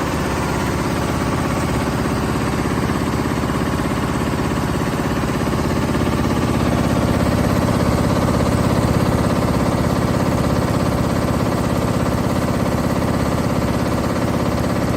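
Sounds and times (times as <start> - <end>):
high-speed machine running: 0.0 - 14.9.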